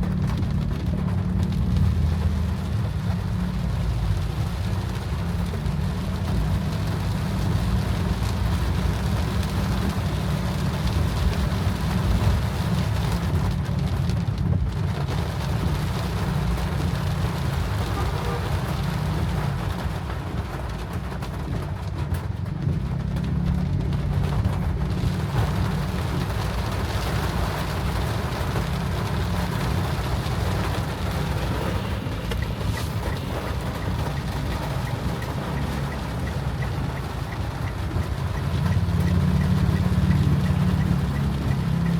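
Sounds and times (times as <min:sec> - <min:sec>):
car engine and road noise: 0:00.0 - 0:41.9
rain on a car: 0:00.0 - 0:41.9.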